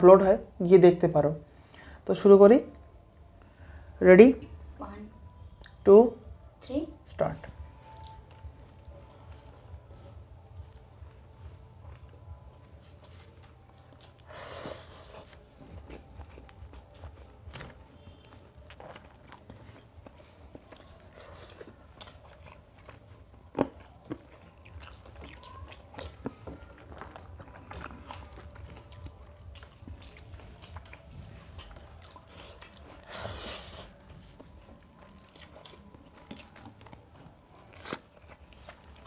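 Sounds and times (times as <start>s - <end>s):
soft chewing: 7.4s - 39.0s.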